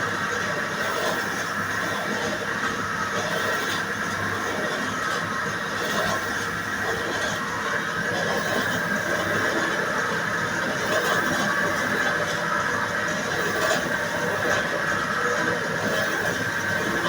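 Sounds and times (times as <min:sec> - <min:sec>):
slicing machine running: 0:00.0 - 0:17.0.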